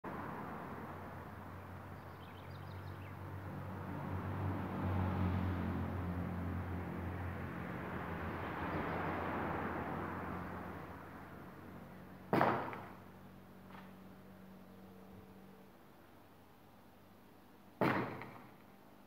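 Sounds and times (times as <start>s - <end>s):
traffic engine drone and tyre noise: 0.0s - 19.0s.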